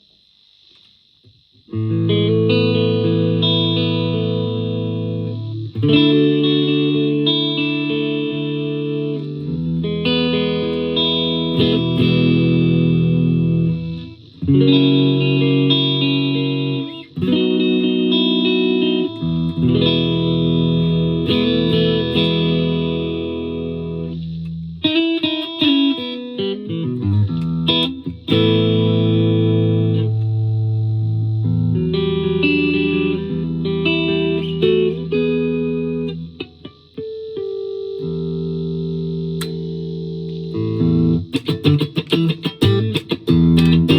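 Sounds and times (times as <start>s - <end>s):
clean electric guitar chords: 1.3s - 43.9s.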